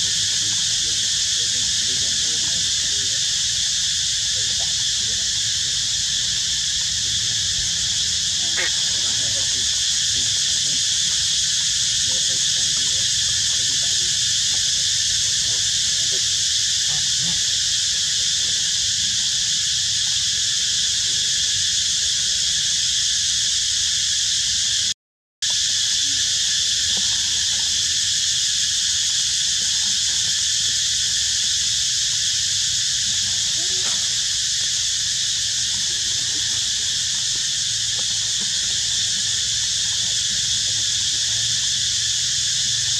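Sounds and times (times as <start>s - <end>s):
buzzing insect chorus: 0.0s - 42.9s.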